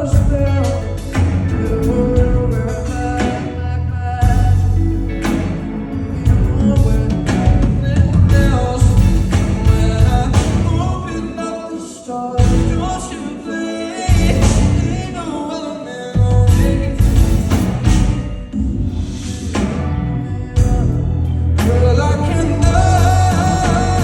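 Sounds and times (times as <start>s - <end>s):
lead singer singing: 0.0s - 24.0s
live pop band playing: 0.0s - 24.0s.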